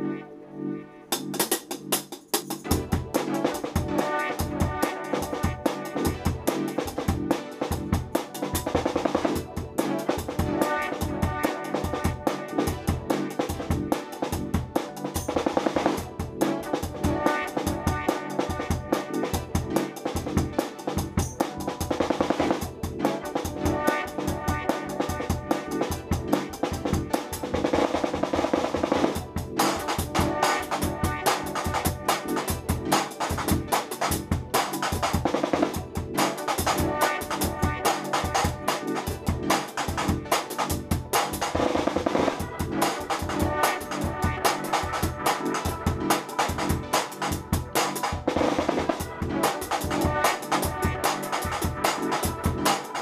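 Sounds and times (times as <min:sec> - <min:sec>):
drum kit rock groove: 0:01.1 - 0:53.0.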